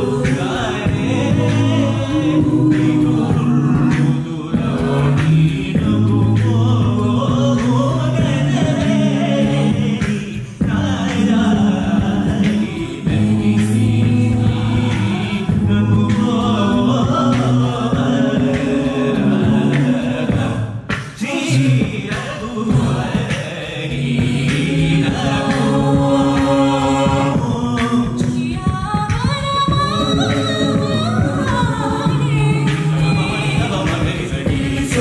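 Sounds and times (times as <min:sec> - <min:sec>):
a cappella group singing: 0:00.0 - 0:35.0.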